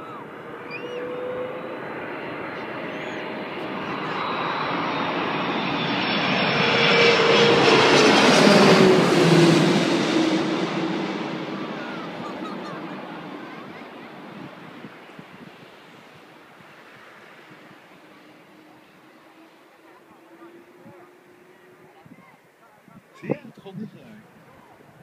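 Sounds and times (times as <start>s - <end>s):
jet engines roaring overhead: 0.0s - 25.0s.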